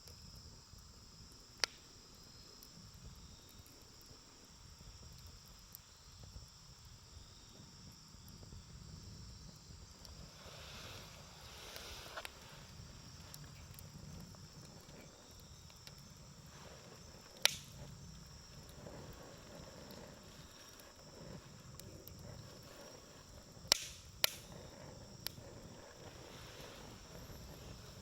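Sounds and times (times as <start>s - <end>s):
burning wood popping: 0.0s - 28.0s
campfire burning: 0.0s - 28.0s.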